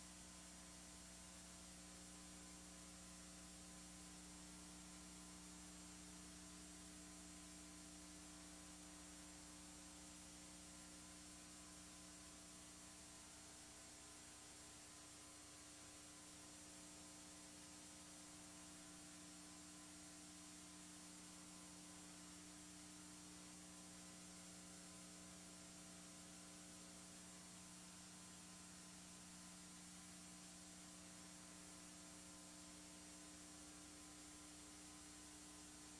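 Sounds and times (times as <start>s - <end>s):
faint mains hum with hiss: 0.0s - 35.9s.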